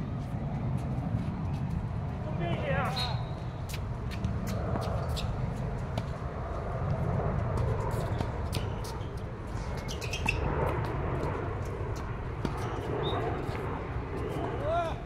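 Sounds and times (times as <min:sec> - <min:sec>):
jet airliner rumbling overhead: 0:00.0 - 0:15.0.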